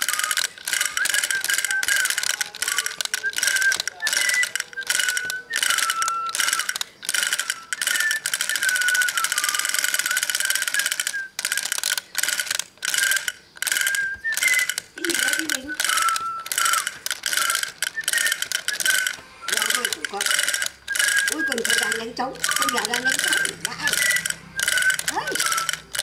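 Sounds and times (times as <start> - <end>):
toy gearbox whirring and rattling: 0.0 - 26.0.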